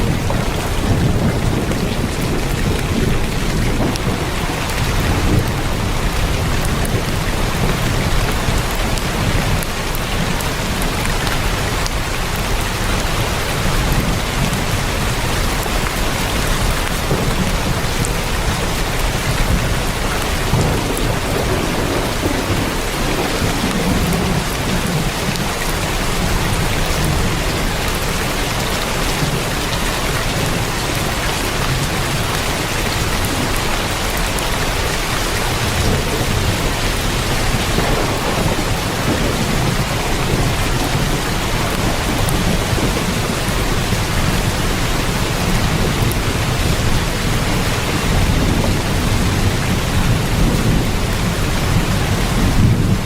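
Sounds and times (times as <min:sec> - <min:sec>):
heavy rain on a tin roof: 0:00.0 - 0:53.0
rolling rumble of thunder: 0:00.0 - 0:53.0.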